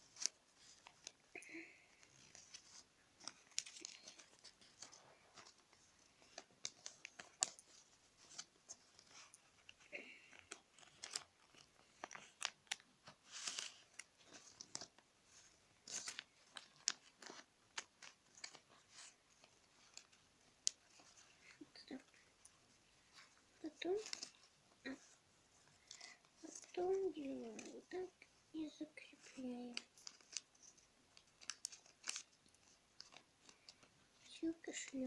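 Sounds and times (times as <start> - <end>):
paper being folded: 0.0 - 35.0.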